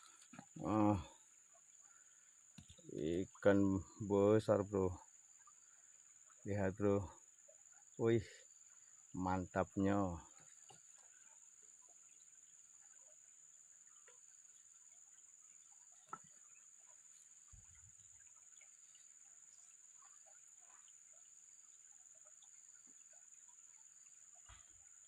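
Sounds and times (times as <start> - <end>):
faint chirps: 0.0 - 25.0.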